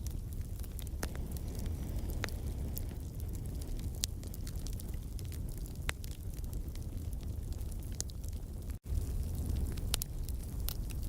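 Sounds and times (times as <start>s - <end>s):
fire crackling: 0.0s - 11.0s
wood fire rumbling: 0.0s - 11.0s.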